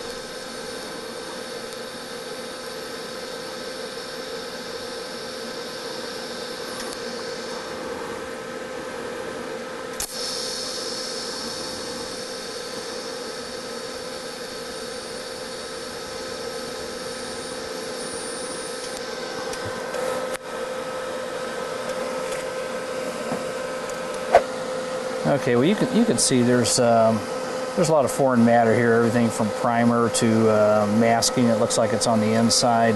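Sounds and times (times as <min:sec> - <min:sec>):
welding arc hissing and humming: 0:00.0 - 0:32.9.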